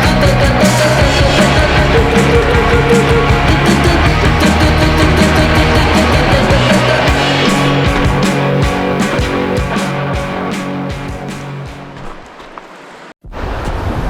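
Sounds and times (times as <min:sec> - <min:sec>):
loud rock music: 0:00.0 - 0:11.9.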